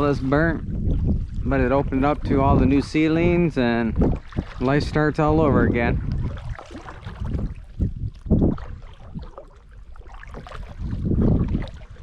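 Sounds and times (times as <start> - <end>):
paddle strokes swishing through water: 0.0 - 12.0
wind rumbling on microphone: 0.0 - 12.0.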